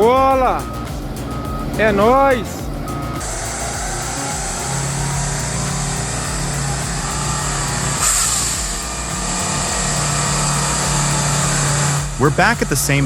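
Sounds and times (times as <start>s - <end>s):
heavy machine diesel engine running: 0.0s - 13.0s.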